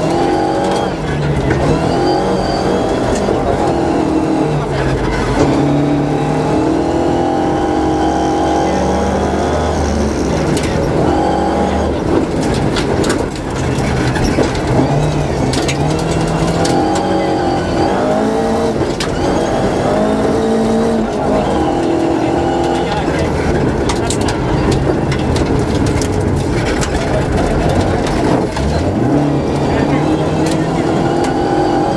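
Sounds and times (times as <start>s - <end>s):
car engine revving and changing gear: 0.0s - 31.9s.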